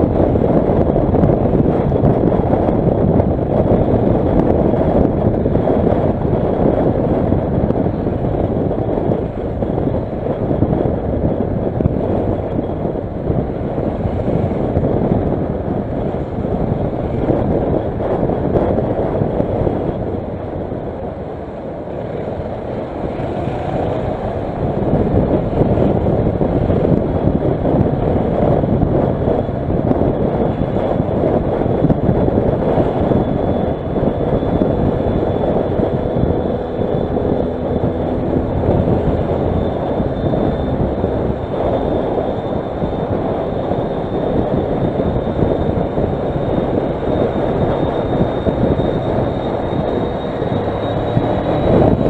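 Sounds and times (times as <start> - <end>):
motorcycle engine running: 0.0 - 52.0
wind and road noise: 0.0 - 52.0.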